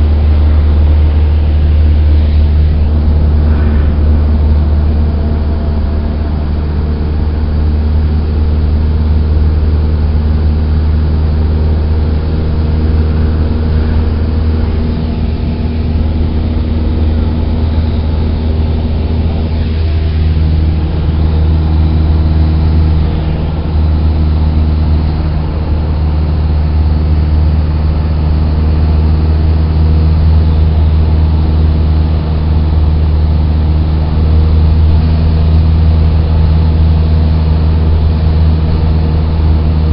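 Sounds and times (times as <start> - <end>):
plane engine and propeller droning: 0.0 - 39.9.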